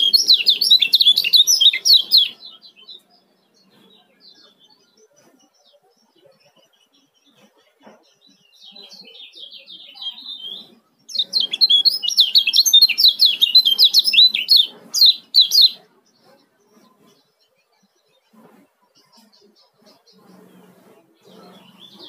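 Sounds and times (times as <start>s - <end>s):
bird chirping song: 0.0s - 22.0s.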